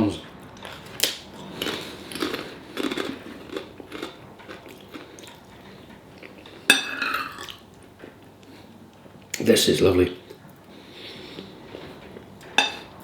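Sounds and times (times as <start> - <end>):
person chewing crunchy food: 0.6 - 9.4, 10.2 - 13.0.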